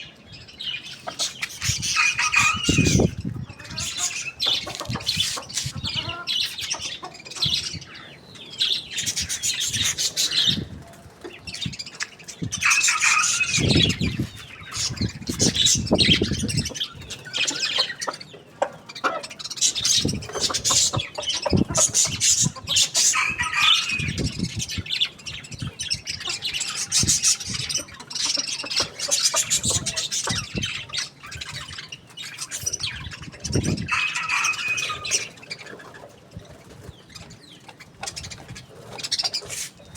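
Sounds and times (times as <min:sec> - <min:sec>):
chickens squawking: 0:00.0 - 0:39.9.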